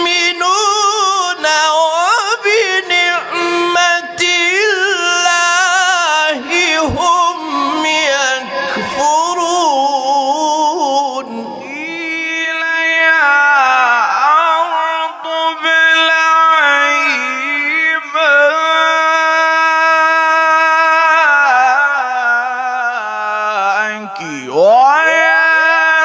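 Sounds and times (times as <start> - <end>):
person reciting melodically: 0.0 - 26.0.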